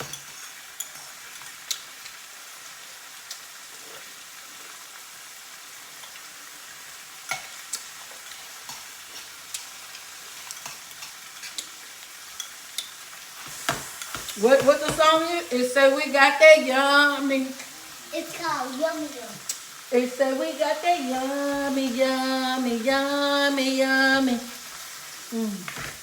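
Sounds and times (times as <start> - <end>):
meat sizzling in a skillet: 0.0 - 26.0.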